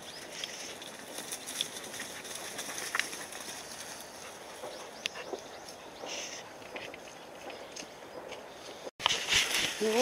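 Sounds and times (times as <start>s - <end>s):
puppies' paws pattering on mud: 0.0s - 10.0s.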